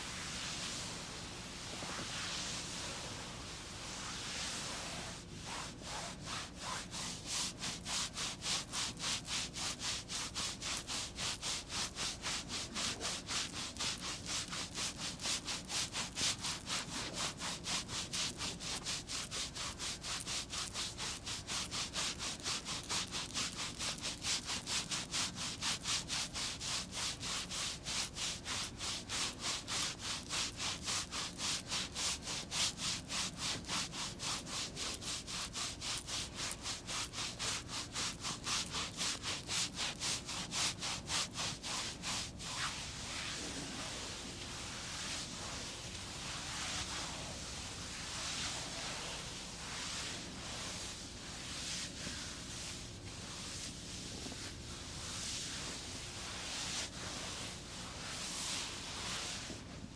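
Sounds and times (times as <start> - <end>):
massage rubbing strokes: 0.0 - 59.7
soft rustling hiss: 0.0 - 59.9.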